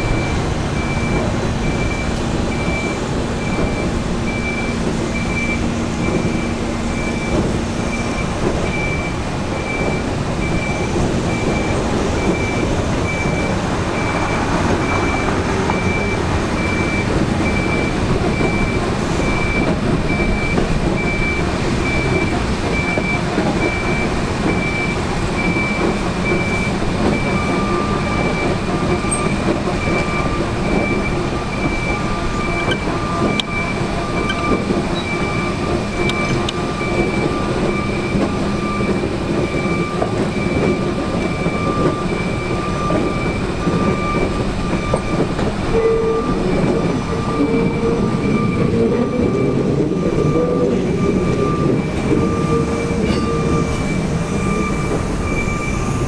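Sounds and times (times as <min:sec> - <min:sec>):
high repeating warning beep: 0:00.0 - 0:56.0
railcar mover engine running: 0:00.0 - 0:56.0.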